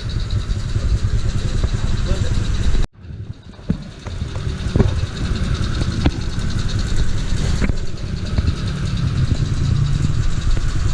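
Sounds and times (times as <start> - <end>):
scooter engine idling: 0.0 - 10.9.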